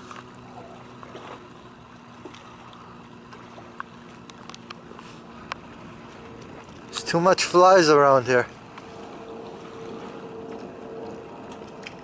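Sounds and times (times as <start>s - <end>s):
boat motor humming: 0.0s - 12.0s
water noise: 0.0s - 12.0s.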